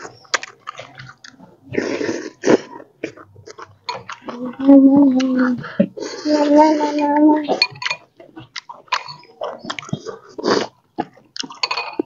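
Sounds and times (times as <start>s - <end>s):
wet chewing of noodle soup: 0.0s - 12.0s.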